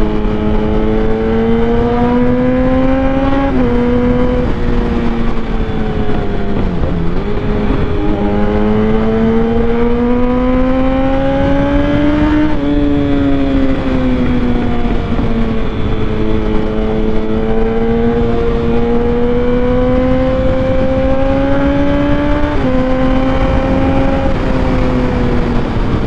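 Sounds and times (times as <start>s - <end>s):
motorcycle engine accelerating: 0.0s - 26.0s
wind noise: 0.0s - 26.0s.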